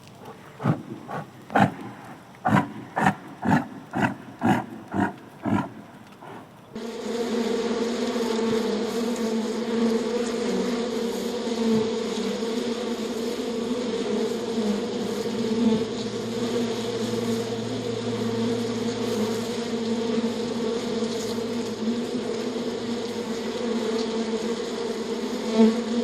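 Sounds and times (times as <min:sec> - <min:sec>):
flying insects buzzing: 0:00.0 - 0:26.0.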